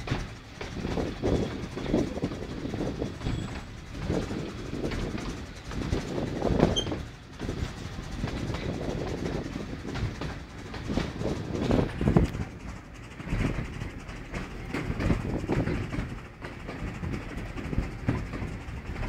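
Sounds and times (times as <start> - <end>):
train wheels clacking on rails: 0.0 - 19.0.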